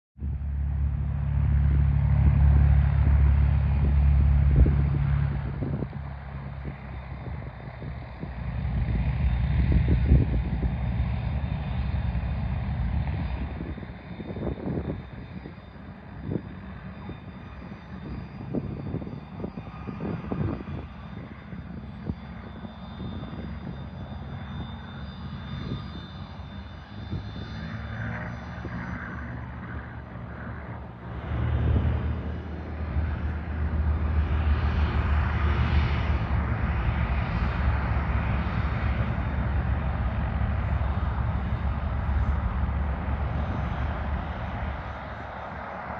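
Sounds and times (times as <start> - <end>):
airplane engine running: 0.2 - 45.9.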